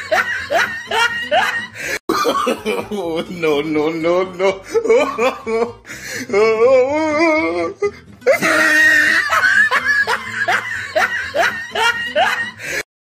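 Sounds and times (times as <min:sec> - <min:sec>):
man laughing: 0:00.0 - 0:12.8.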